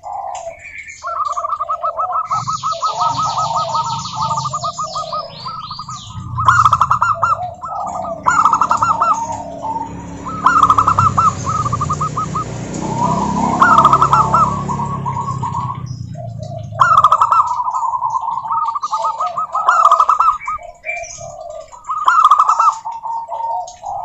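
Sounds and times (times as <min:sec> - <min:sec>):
doves cooing: 0:00.0 - 0:24.0
small bird chirping: 0:00.0 - 0:24.0.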